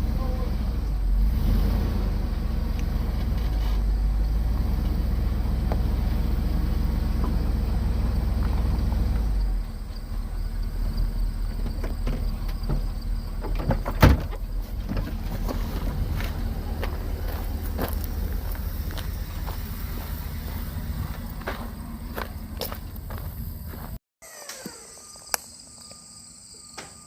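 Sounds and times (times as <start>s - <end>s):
motor engine rumbling: 0.0s - 25.0s.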